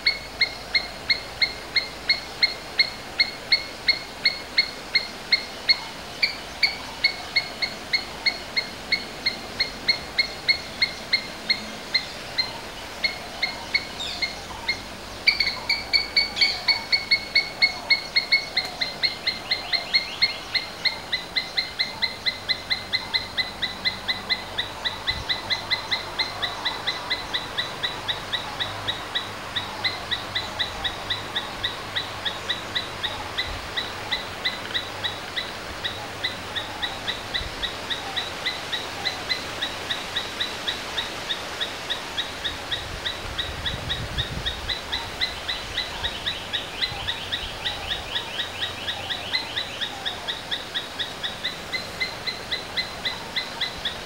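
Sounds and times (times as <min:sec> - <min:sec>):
squirrel chirping: 0:00.0 - 0:54.0.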